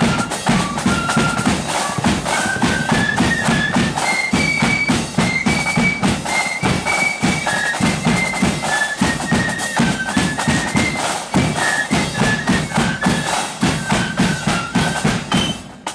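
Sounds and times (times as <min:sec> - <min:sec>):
flutes playing in unison: 0:00.0 - 0:15.9
marching drum beat: 0:00.0 - 0:15.9.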